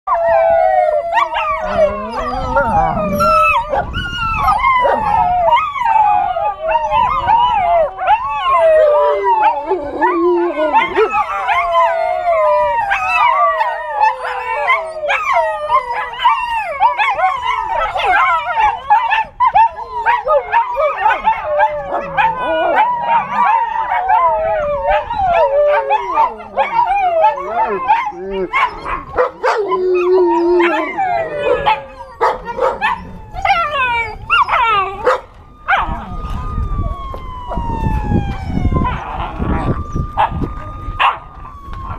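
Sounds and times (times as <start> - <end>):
puppies howling: 0.1 - 41.9
siren from phone: 0.3 - 28.4, 32.5 - 41.9.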